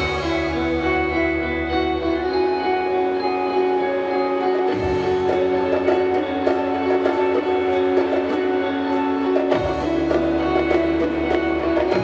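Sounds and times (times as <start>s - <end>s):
electric guitar: 0.0s - 12.0s
congas and hand percussion: 2.2s - 12.0s.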